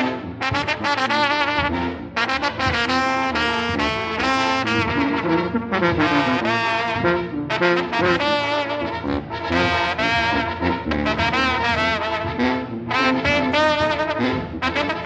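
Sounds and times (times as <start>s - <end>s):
brass band playing: 0.0s - 15.0s
trumpets and trombones melody: 0.0s - 15.0s.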